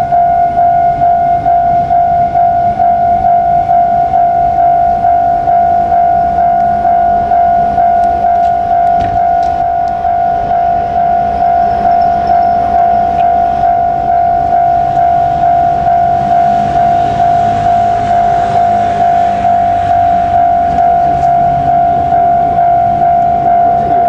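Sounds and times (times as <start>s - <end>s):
level crossing alarm clanging: 0.0s - 24.0s
low rumble: 0.9s - 24.0s.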